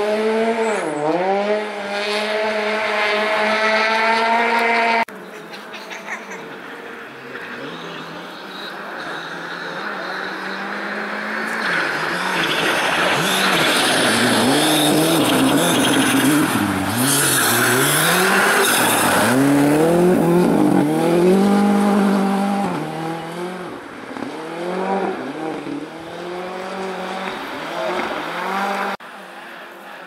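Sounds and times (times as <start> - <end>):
rally car engine revving: 0.0 - 5.1, 7.0 - 29.0.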